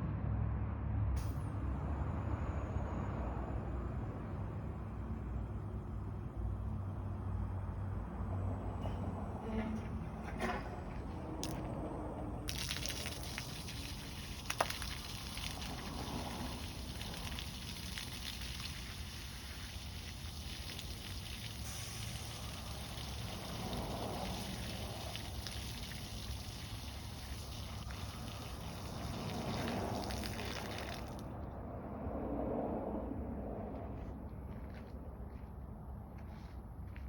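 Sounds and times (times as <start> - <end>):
water rushing from a hose boom: 1.2 - 31.4
truck engine running: 1.2 - 31.5.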